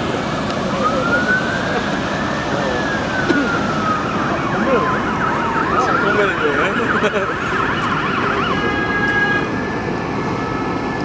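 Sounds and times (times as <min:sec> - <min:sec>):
emergency vehicle siren: 0:00.0 - 0:11.0.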